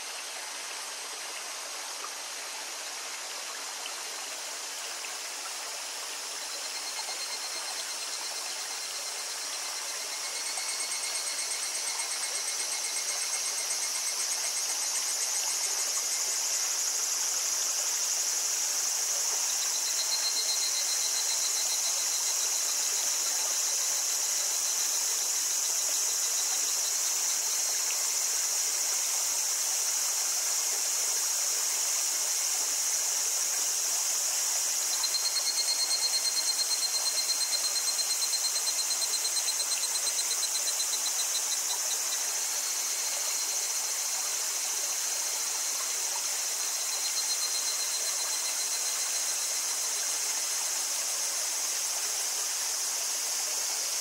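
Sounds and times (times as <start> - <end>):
cicada chorus: 0.0 - 54.0
single cicada pulsing call: 0.0 - 54.0.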